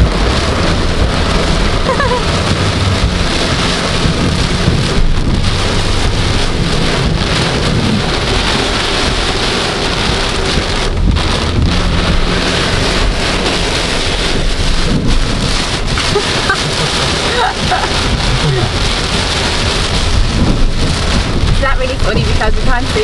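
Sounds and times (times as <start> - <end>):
engine and road hum: 0.0 - 23.0
heavy rain on car roof: 0.0 - 23.0.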